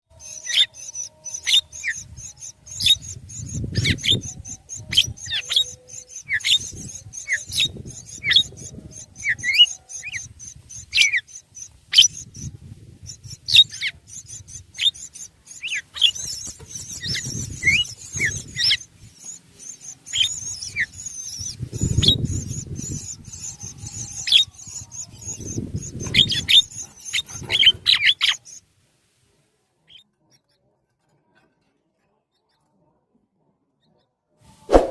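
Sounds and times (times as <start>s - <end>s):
birds chirping: 0.1s - 28.6s.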